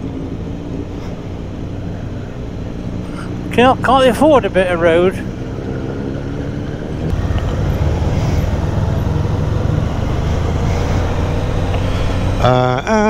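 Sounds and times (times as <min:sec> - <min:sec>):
motorcycle engine running: 0:00.0 - 0:12.8
road and wind noise: 0:00.0 - 0:13.0.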